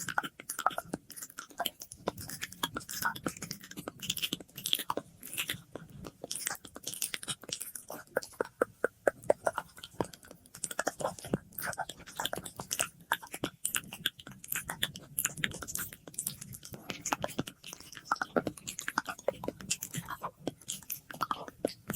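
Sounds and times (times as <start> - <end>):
wet mouth clicks and smacks: 0.0 - 21.9.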